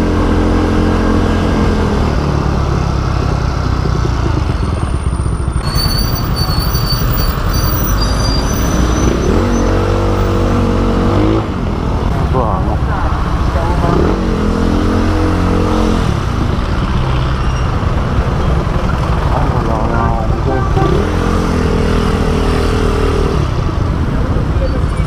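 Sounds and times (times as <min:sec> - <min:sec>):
motorcycle engine running: 0:00.0 - 0:07.6, 0:11.4 - 0:25.0.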